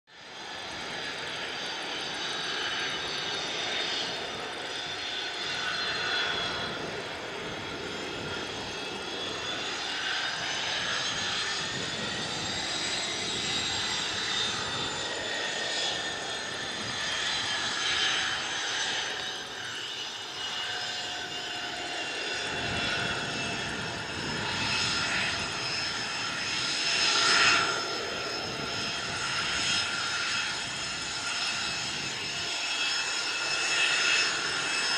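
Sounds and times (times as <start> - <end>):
jet engines whining: 0.2 - 34.9.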